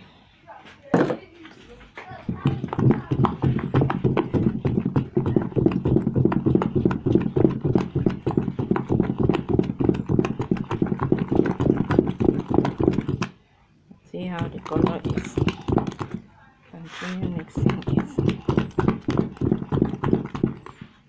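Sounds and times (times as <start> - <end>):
stirrer knocking on container: 2.1 - 13.3, 14.2 - 16.2, 17.1 - 20.8.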